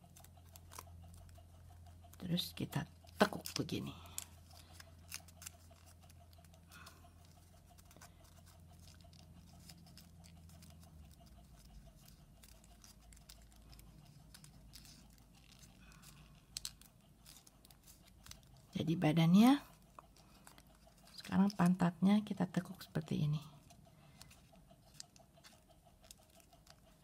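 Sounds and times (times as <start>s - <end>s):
paper crinkling and folding: 0.0s - 1.5s, 2.2s - 21.8s, 24.0s - 27.0s
low steady hum: 0.0s - 27.0s.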